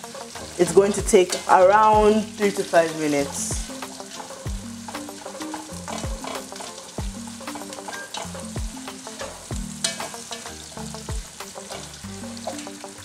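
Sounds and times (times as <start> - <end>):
background music with drums: 0.0 - 13.0
onions sizzling in hot oil: 0.0 - 13.0.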